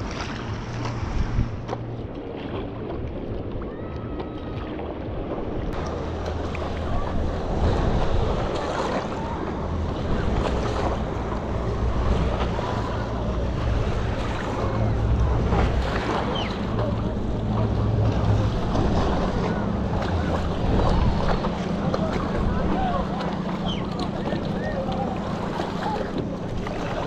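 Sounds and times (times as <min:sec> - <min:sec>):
water splashing and lapping: 0:00.0 - 0:27.0
wind on microphone: 0:00.0 - 0:27.0.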